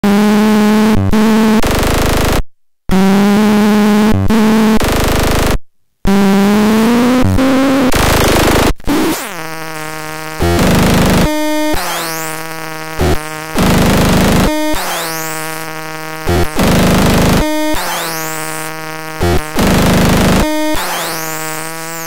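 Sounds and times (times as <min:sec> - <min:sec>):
synthesized engine revving: 0:00.0 - 0:22.0.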